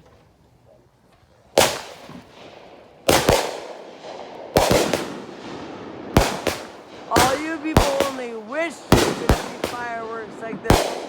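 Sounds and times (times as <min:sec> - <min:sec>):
firework shots cracking: 0:01.6 - 0:11.0.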